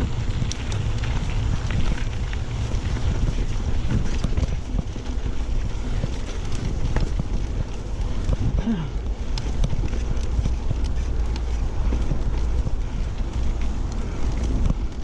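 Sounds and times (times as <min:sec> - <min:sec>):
bike rattling clicks and knocks: 0:00.0 - 0:15.0
wind buffeting microphone: 0:00.0 - 0:15.0.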